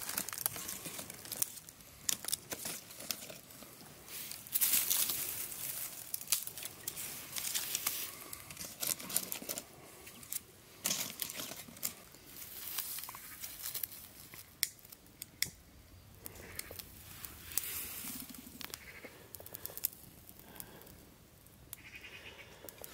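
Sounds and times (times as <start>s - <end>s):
twigs snapping: 0.0s - 15.6s, 16.2s - 20.9s
dry grass and twigs rustling: 0.0s - 22.9s.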